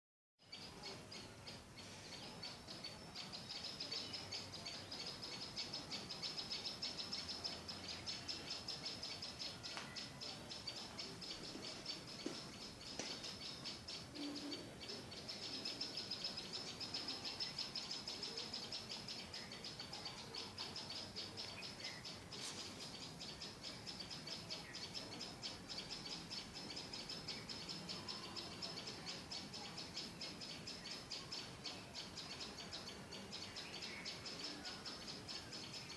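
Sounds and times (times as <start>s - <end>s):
birds chirping rapidly: 0.4s - 35.9s.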